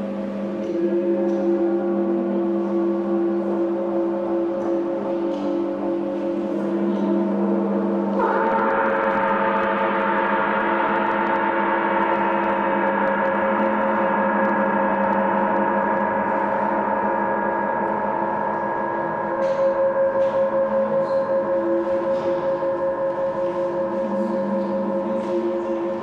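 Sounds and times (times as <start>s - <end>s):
gong ringing: 0.0s - 26.0s.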